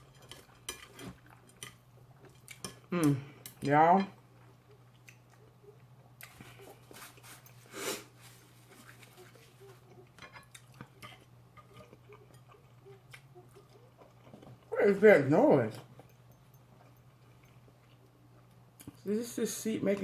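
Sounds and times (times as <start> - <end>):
chewing: 0.0 - 3.6, 4.2 - 14.8, 15.7 - 19.1.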